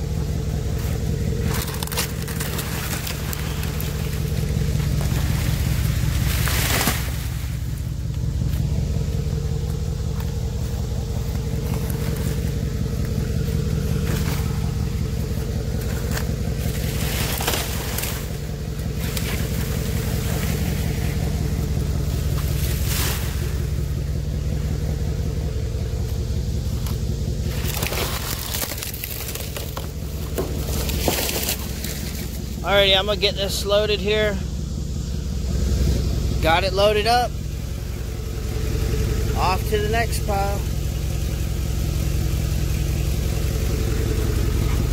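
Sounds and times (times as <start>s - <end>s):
dry palm fronds rustling and scraping: 0.0s - 34.3s, 37.8s - 44.9s
truck engine idling: 0.0s - 44.9s.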